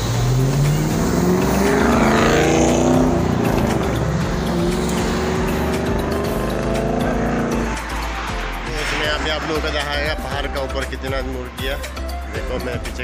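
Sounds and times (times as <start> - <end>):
cars accelerating past: 0.0 - 12.0.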